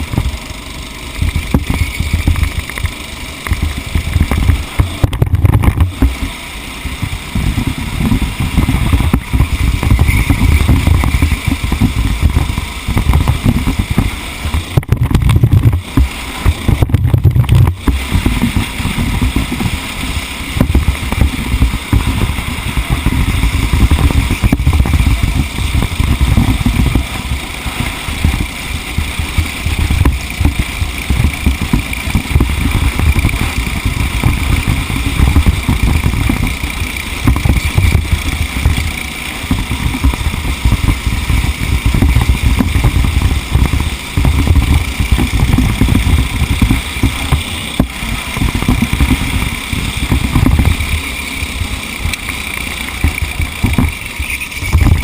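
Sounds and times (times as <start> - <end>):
racing engine rumble: 0.0 - 55.0
wind noise: 0.0 - 55.0.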